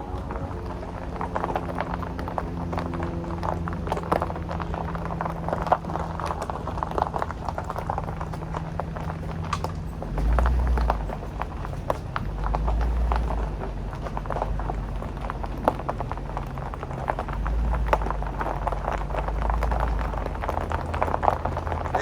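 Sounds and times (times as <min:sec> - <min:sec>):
car engine hum: 0:00.0 - 0:22.0
low rumble: 0:00.0 - 0:22.0
tyres crackling on road: 0:00.0 - 0:22.0.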